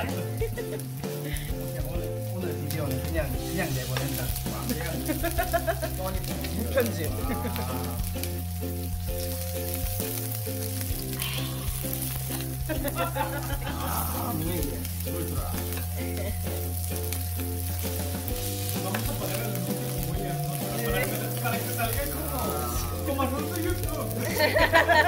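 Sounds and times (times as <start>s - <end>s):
background music with beat: 0.0s - 25.0s
meat sizzling on griddle: 0.0s - 25.0s.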